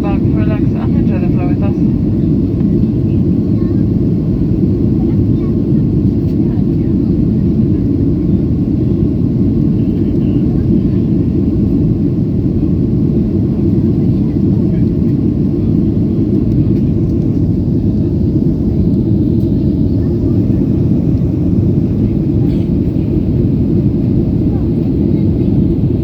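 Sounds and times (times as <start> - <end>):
airflow over fuselage: 0.0 - 26.0
jet engines at climb thrust: 0.0 - 26.0.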